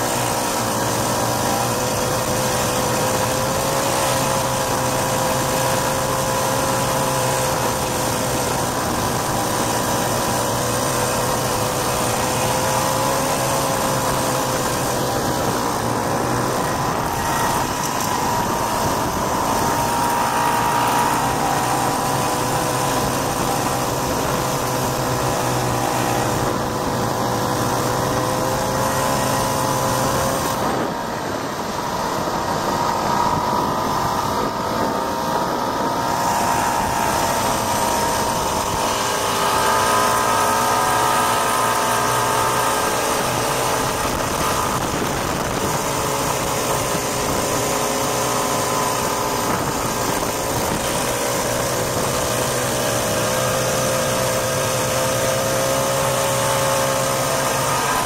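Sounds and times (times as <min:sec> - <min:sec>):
snowmobile engine running: 0:00.0 - 0:58.0
snowmobile track noise: 0:00.0 - 0:58.0
wind: 0:00.0 - 0:58.0.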